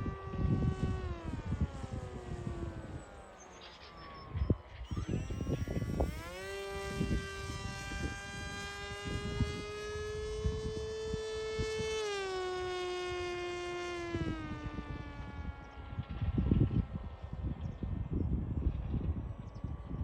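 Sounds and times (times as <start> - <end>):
model plane motor whining: 0.0 - 20.0
wind buffeting microphone: 0.0 - 20.0.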